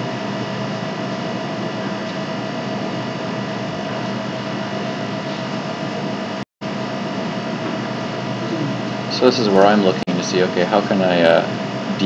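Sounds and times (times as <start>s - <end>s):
steady hum tones: 0.0s - 12.0s.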